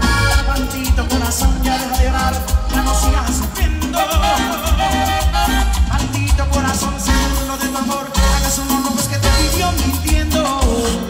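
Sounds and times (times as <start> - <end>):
bass and drum beat: 0.0 - 11.0
instrumental melody: 0.0 - 11.0.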